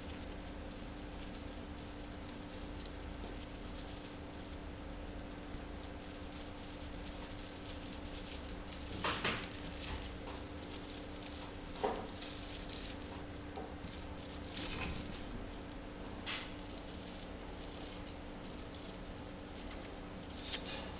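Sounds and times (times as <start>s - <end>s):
chipmunk rustling in dry hay: 0.0s - 20.9s
steady low hum: 0.0s - 20.9s.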